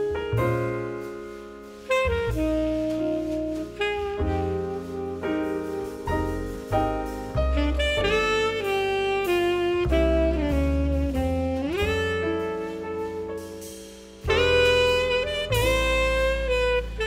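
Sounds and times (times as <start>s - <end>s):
bass line: 0.0s - 17.0s
jazz saxophone melody: 0.0s - 17.0s.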